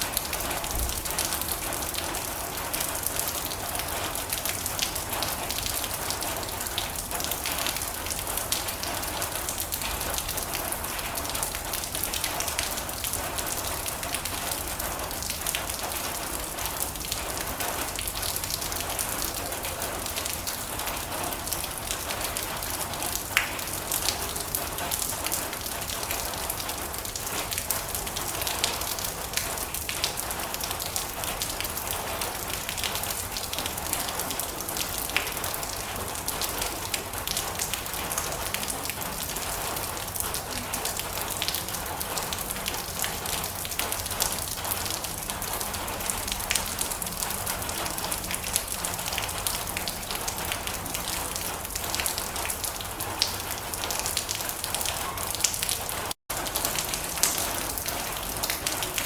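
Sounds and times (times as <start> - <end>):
rain on a metal roof: 0.0 - 59.0.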